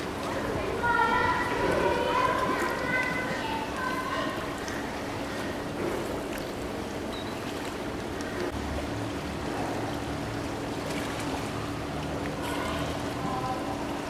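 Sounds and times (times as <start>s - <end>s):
pool water sloshing: 0.0s - 14.0s.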